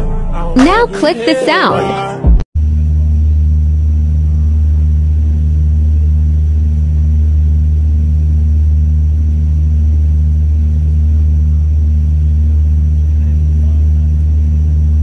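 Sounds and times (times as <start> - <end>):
airliner engines rumbling: 2.6 - 15.0.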